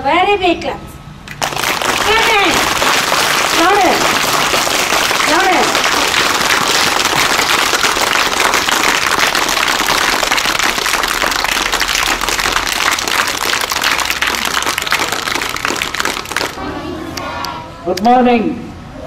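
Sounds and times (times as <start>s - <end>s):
children clapping: 1.3s - 16.6s.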